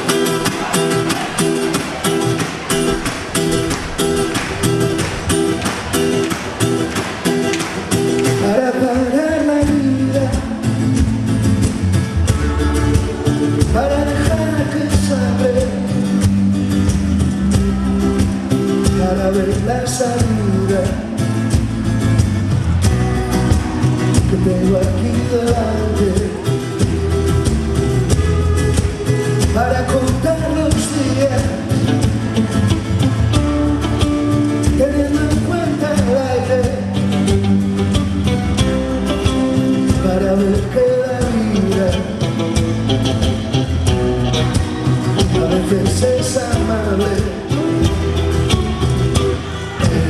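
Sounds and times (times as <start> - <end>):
band playing: 0.0 - 50.0.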